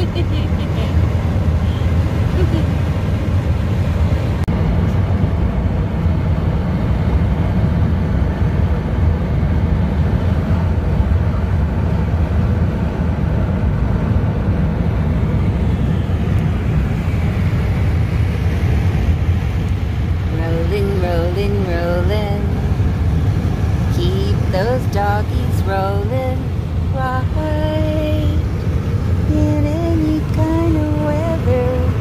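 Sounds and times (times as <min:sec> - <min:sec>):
car cabin road rumble: 0:00.0 - 0:32.0.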